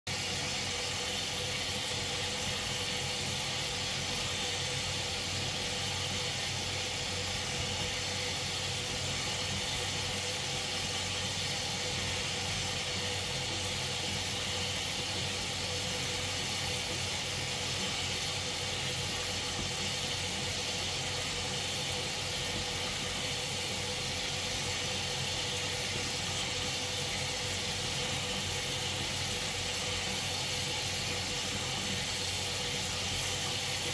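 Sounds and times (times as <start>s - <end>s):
tap water running into sink: 0.1s - 33.9s.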